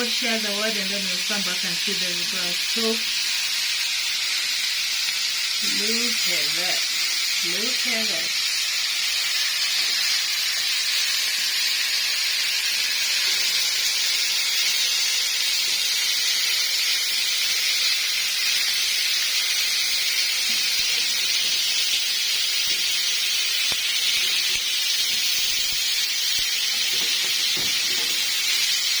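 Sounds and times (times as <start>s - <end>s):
chicken sizzling in a hot pan: 0.0s - 29.0s.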